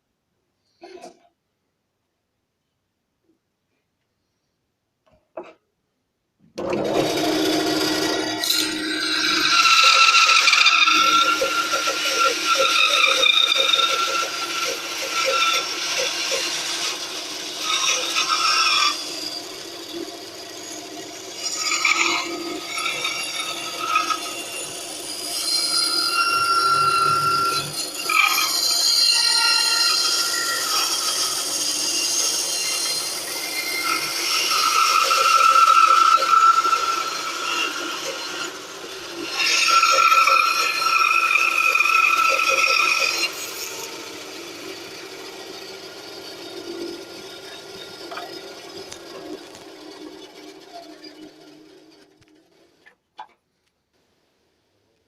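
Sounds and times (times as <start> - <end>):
bandsaw cutting wood: 6.6 - 52.2.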